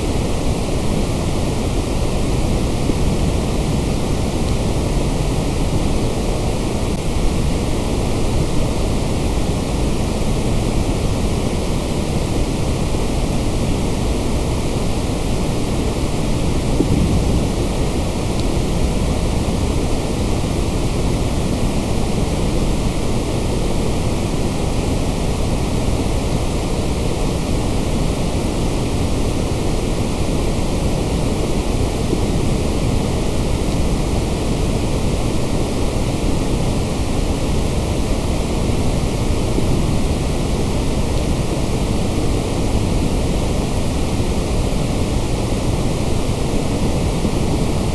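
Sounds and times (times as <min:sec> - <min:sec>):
white noise hiss: 0:00.0 - 0:47.9.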